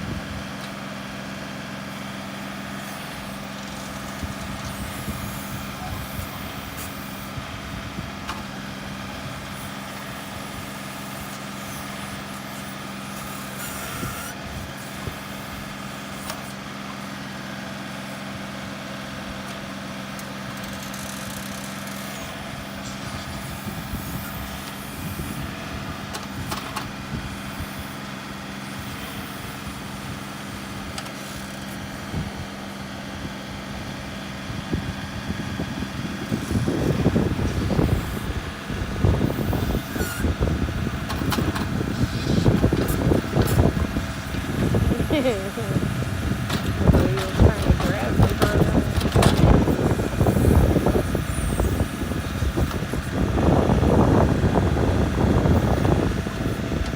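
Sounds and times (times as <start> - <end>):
mechanical hum: 0.0 - 56.9.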